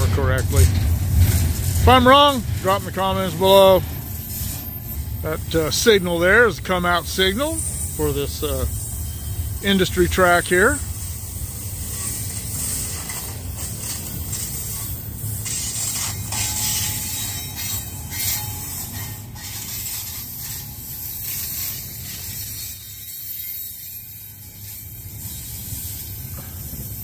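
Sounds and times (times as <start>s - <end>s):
train cars clicking and clanking: 0.0s - 27.0s
train wheels rumbling on rails: 0.0s - 27.0s.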